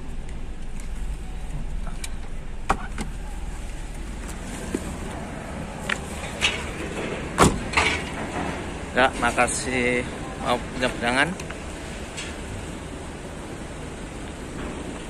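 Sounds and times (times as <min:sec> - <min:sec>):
car idling: 0:00.0 - 0:15.0.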